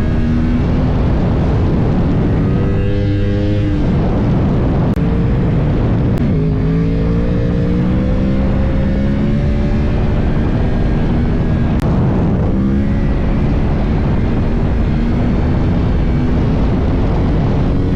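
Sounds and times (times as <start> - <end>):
motorcycle engine cruising: 0.0 - 17.9
wind rush on microphone: 0.0 - 17.9.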